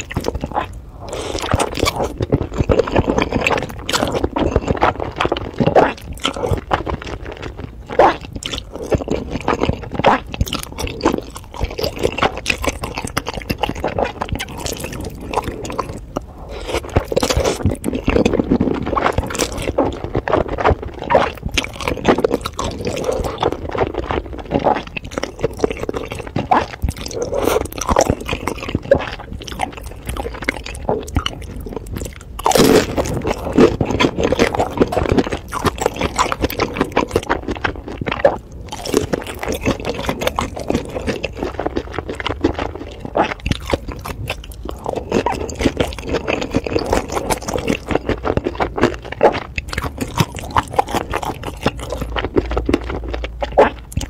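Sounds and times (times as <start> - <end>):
person slurping and chewing noodles: 0.0 - 54.0.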